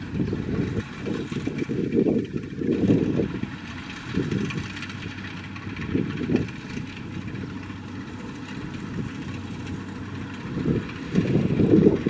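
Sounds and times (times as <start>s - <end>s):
combine harvester engine running: 0.0s - 12.0s
wind buffeting microphone: 0.0s - 12.0s.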